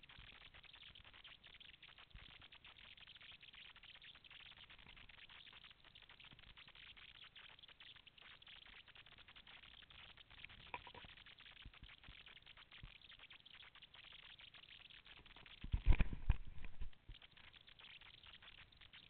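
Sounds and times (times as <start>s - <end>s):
faint crackling patter: 0.0s - 19.0s.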